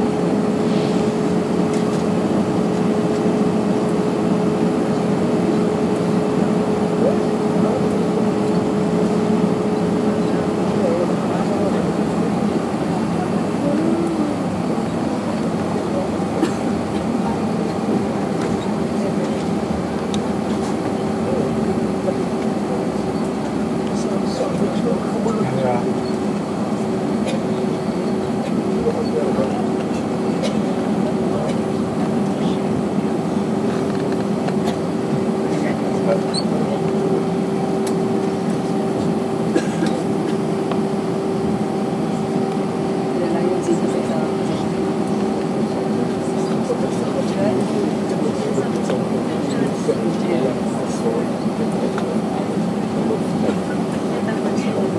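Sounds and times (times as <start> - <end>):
aircraft cabin engine hum: 0.0 - 54.9.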